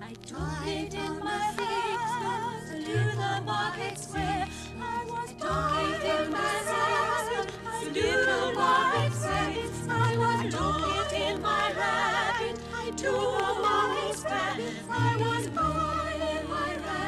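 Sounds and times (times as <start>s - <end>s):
choir singing with vibrato: 0.4s - 17.0s.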